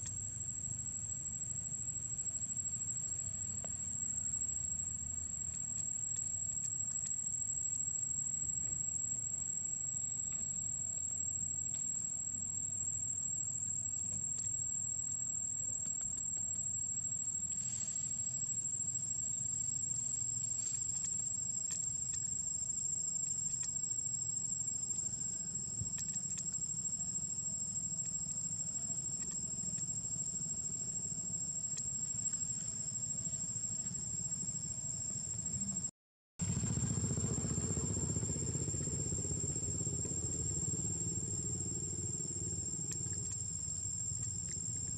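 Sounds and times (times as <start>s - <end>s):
high-pitched insect drone: 0.0s - 44.9s.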